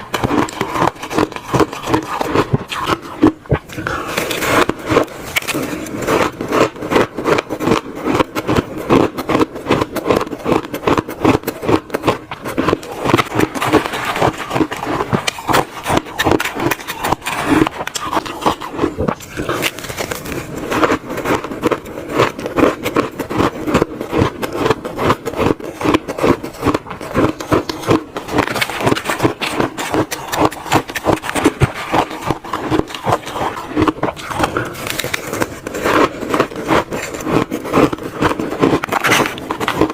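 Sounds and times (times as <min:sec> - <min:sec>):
crunching shaved ice: 0:00.0 - 0:39.9.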